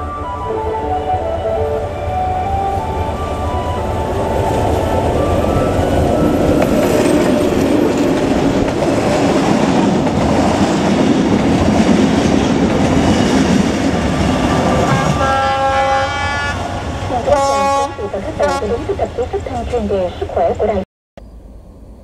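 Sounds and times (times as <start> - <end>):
freight train wheels rumbling: 0.0 - 20.8.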